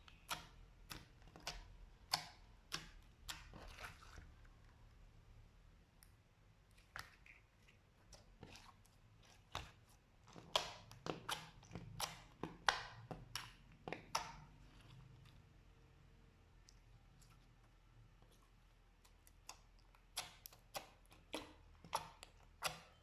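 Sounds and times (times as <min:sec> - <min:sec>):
slime squishing with sticky clicks: 0:00.0 - 0:05.1, 0:05.8 - 0:15.7, 0:16.3 - 0:23.0.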